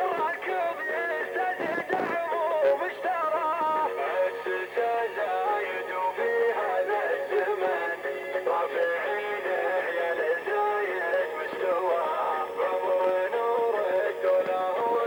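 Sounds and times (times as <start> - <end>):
man singing processed vocals: 0.0 - 15.0.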